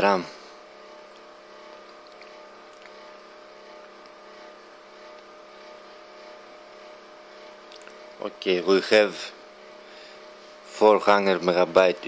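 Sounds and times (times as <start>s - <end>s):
steady multi-tone hum: 0.0s - 12.0s.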